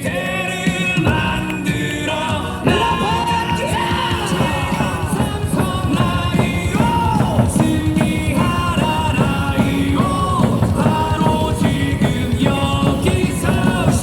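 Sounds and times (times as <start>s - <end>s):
rock song over loudspeakers: 0.0s - 14.0s.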